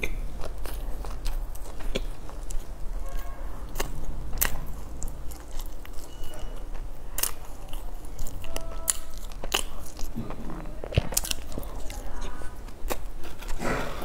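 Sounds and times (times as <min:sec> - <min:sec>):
biting and chewing crusty bread: 0:00.0 - 0:14.0.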